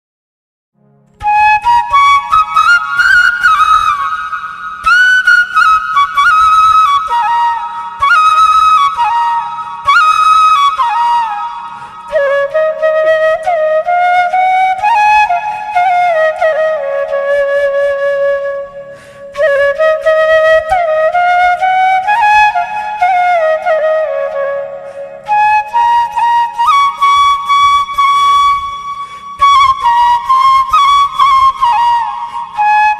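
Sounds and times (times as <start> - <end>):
solo flute melody: 1.1 - 32.9.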